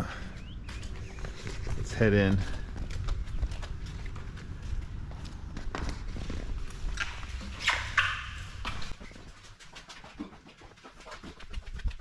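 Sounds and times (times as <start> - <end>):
footsteps going down stairs: 0.0 - 12.0.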